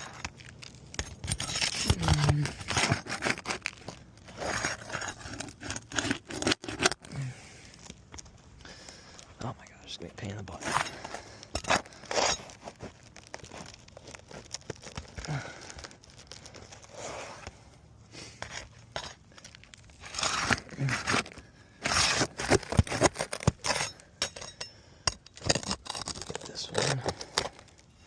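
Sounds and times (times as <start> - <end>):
roof shingles crackling and tearing: 0.0 - 24.2, 25.3 - 28.0.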